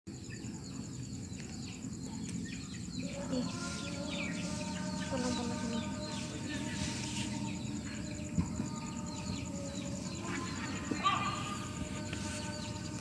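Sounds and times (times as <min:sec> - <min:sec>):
birds chirping: 0:00.1 - 0:13.0
insect trill: 0:00.1 - 0:13.0.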